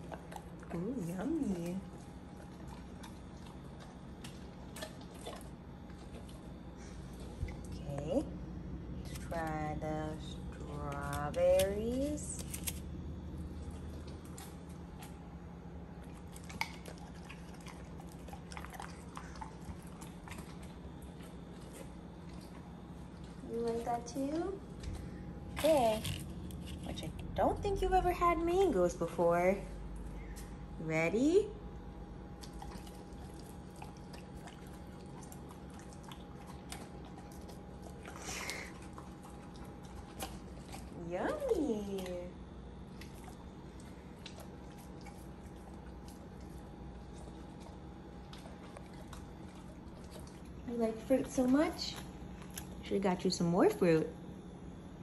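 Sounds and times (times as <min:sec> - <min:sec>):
dog chewing strawberries: 0:00.0 - 0:08.0, 0:08.7 - 0:27.9, 0:31.8 - 0:53.8
faint steady hum: 0:00.0 - 0:55.0.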